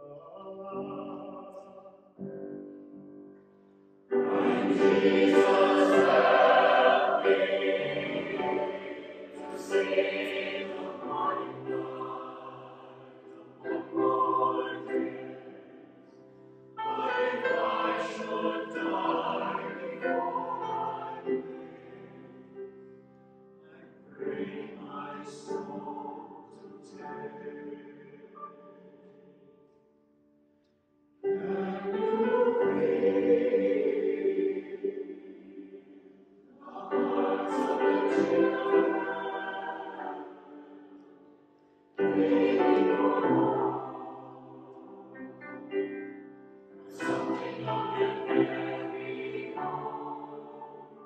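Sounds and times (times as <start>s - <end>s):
church choir singing: 0.0s - 30.0s, 31.2s - 51.0s.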